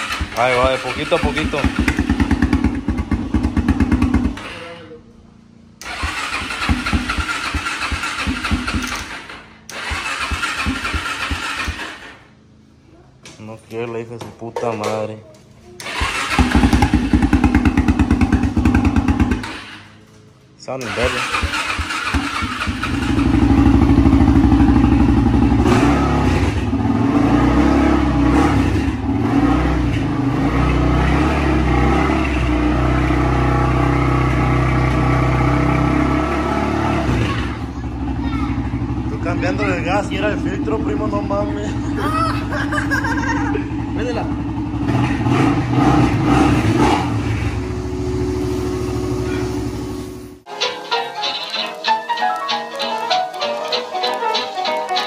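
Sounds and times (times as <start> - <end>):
atv engine running roughly: 0.0 - 4.8, 5.8 - 12.2, 15.8 - 19.8, 20.8 - 50.4.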